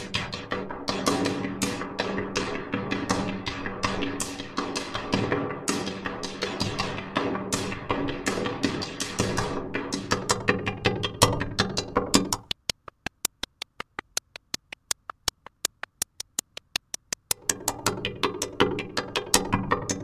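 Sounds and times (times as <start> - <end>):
reverberant synthesized drum pattern: 0.0 - 20.0.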